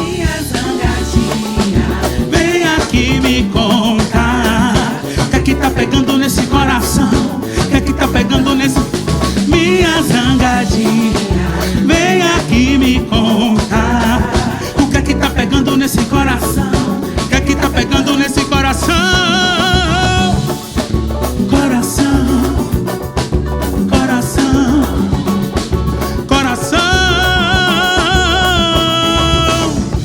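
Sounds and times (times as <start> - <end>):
drum kit and bass beat: 0.0 - 30.0
wavering lead melody: 0.0 - 30.0.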